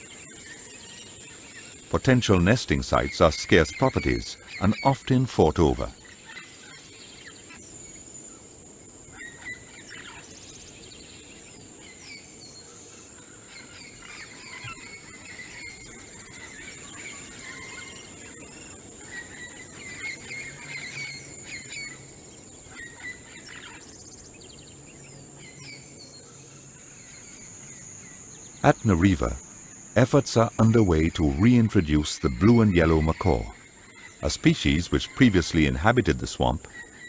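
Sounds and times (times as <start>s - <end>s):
bird calls and chirps: 0.0s - 37.0s
high-pitched insect drone: 0.0s - 37.0s.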